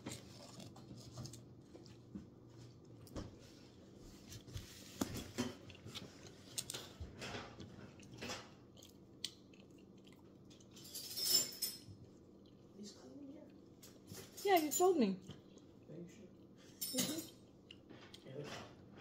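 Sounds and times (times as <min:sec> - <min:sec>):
chewing waffle: 0:00.0 - 0:11.1, 0:11.8 - 0:14.3, 0:15.2 - 0:19.0.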